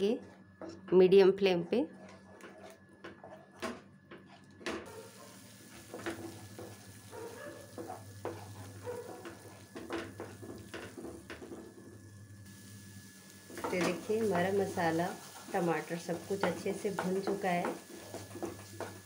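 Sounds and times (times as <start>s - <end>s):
paste sizzling: 0.0s - 19.0s
spatula scraping frying pan: 1.6s - 11.8s, 13.6s - 19.0s.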